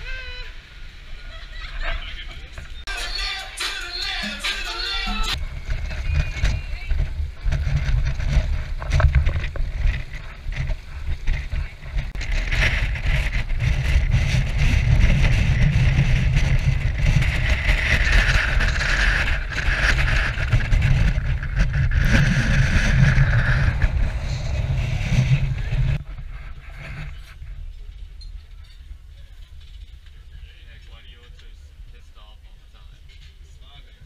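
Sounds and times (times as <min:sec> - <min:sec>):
wind buffeting microphone: 0:05.3 - 0:34.0.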